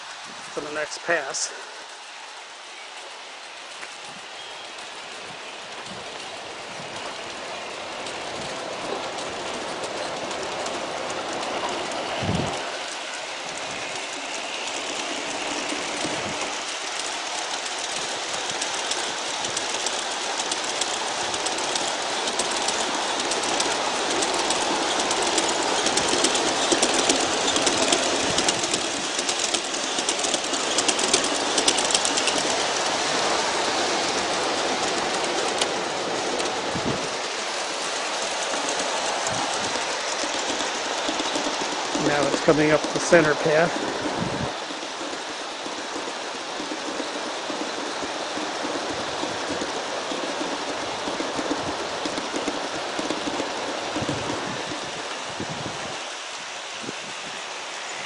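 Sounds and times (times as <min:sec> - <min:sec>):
model train wheels clicking: 0:00.0 - 0:58.0.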